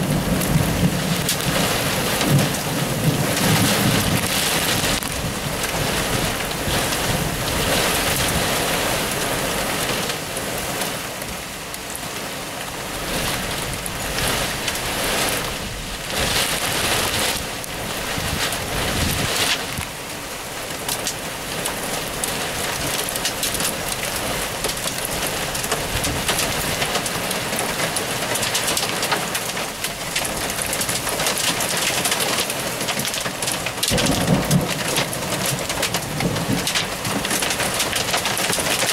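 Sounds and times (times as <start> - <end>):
rain pattering on window: 0.0 - 38.9.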